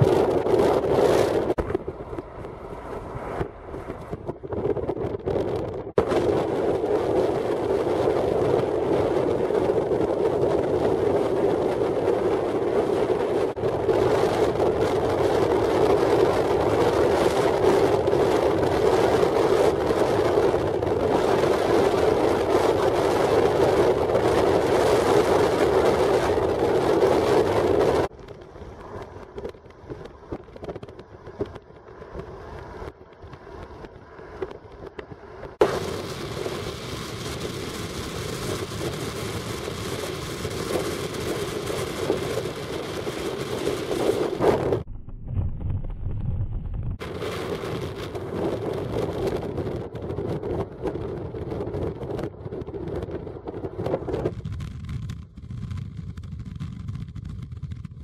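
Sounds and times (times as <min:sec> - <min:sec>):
wind and road noise inside car: 0:00.0 - 0:58.0.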